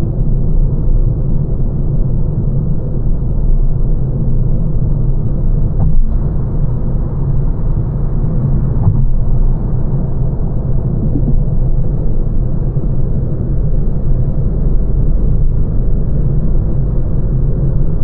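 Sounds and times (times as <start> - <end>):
road and tyre rumble in car: 0.0 - 18.0.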